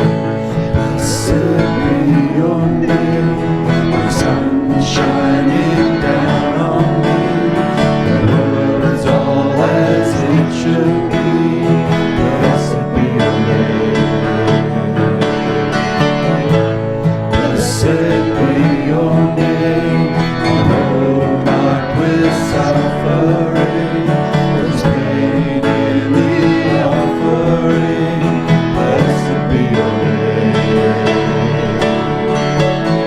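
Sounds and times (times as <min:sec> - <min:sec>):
acoustic guitar: 0:00.0 - 0:33.0
person singing: 0:00.0 - 0:33.0.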